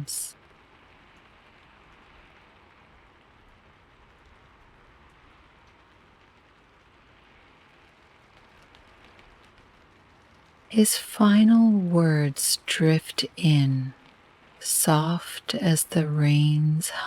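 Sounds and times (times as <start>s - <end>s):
steady rain hiss: 0.0s - 17.0s
soft raindrop ticks: 0.3s - 10.8s, 12.4s - 15.6s.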